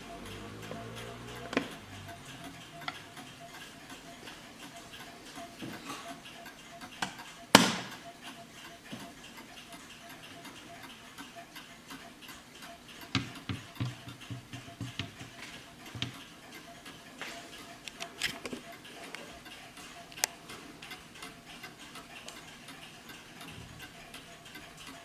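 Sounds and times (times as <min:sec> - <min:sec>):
clock ticking: 0:00.0 - 0:25.0.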